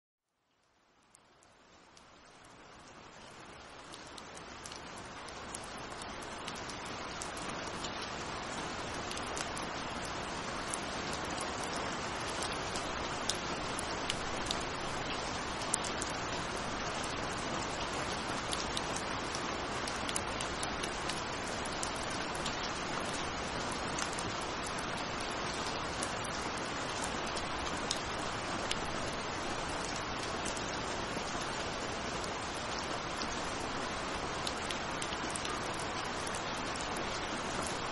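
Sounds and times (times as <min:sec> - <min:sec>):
steady rain falling: 0:00.2 - 0:37.9.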